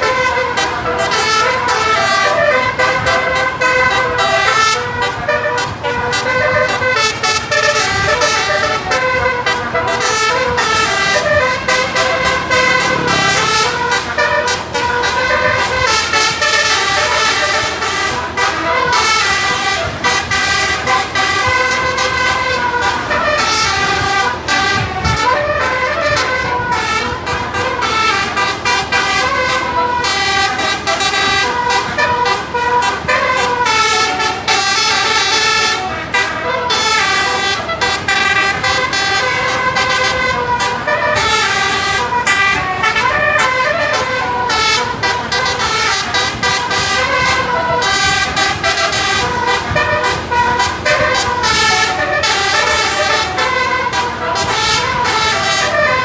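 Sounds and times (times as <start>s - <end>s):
bus air horns playing tunes: 0.0s - 56.0s.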